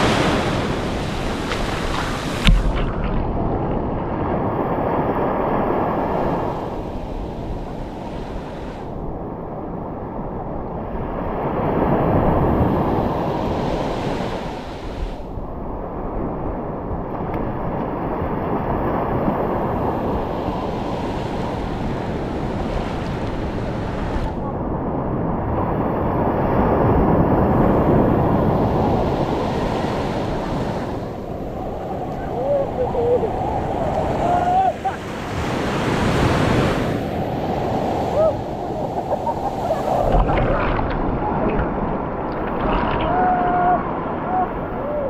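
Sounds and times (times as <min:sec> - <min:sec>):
surf washing up sand: 0:00.0 - 0:09.0, 0:11.2 - 0:15.4, 0:17.1 - 0:45.0
wind buffeting microphone: 0:00.0 - 0:45.0.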